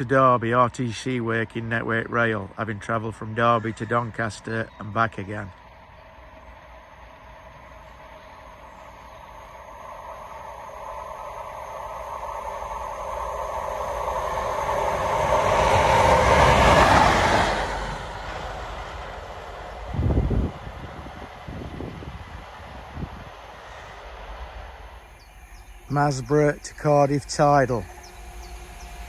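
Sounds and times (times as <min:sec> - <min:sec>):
diesel train passing at speed: 0:00.0 - 0:29.0
low rumble: 0:05.5 - 0:29.0.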